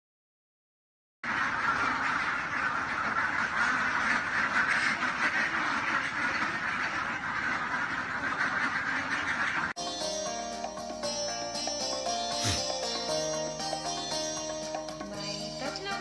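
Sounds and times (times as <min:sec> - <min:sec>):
flock of ducks quacking: 0:01.3 - 0:10.4, 0:12.0 - 0:16.0.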